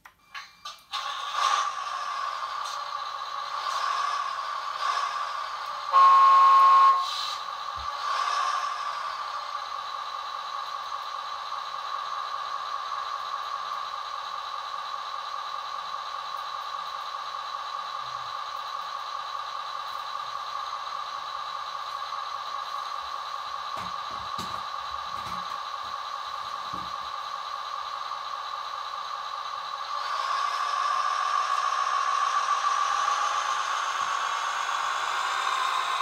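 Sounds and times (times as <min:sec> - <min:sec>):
diesel engine sound through speaker: 0:00.6 - 0:36.0.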